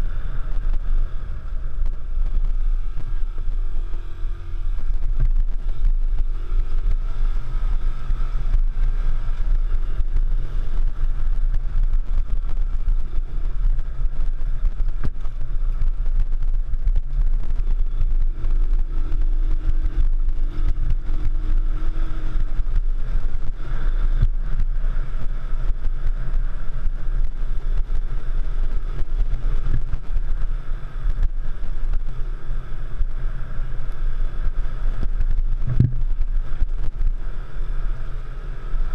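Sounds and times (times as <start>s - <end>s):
motorcycle engine revving: 0.0s - 38.9s
wind rumble on microphone: 0.0s - 38.9s.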